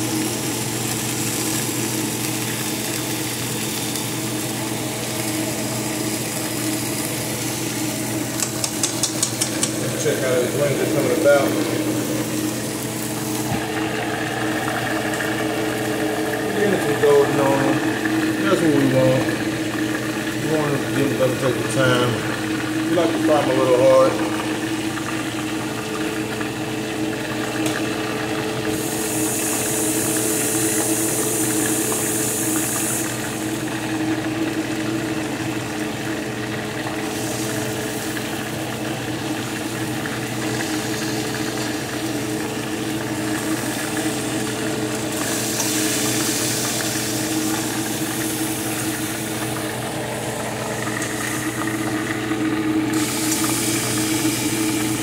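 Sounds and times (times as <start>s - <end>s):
chicken frying in oil: 0.0s - 55.0s
fan humming: 0.0s - 55.0s.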